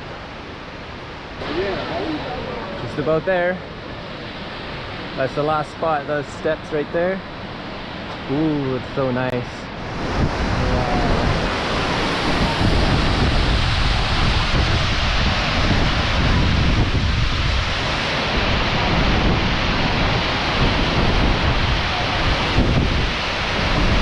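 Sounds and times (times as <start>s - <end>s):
waterfall pounding: 1.3s - 6.8s, 7.4s - 24.0s.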